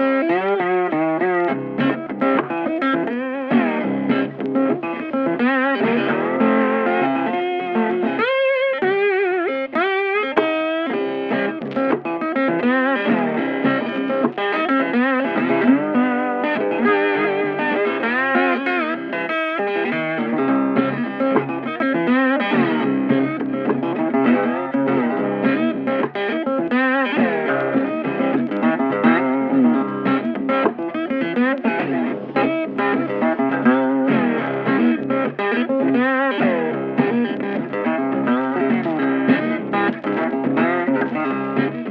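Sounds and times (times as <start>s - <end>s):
electric guitar instrumental music: 0.0s - 41.9s.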